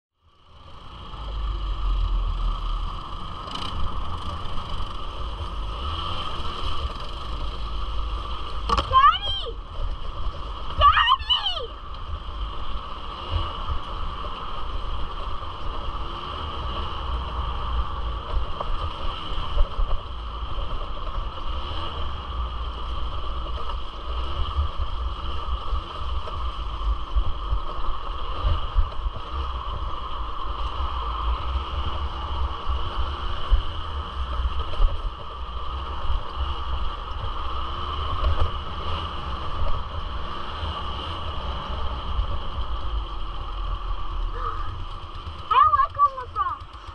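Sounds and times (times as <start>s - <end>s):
two-stroke engine running: 0.2s - 10.9s, 11.7s - 46.9s.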